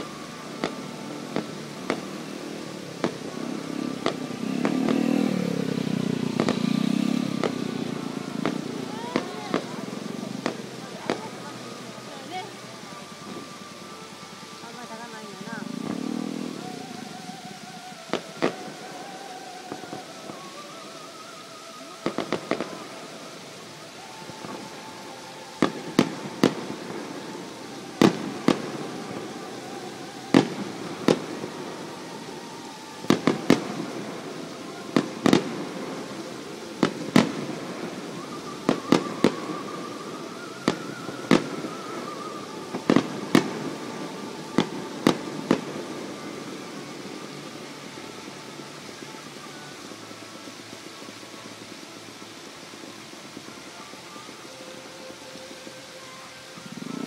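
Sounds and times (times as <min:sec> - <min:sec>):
fireworks bursting with sharp bangs: 0:00.0 - 0:57.0.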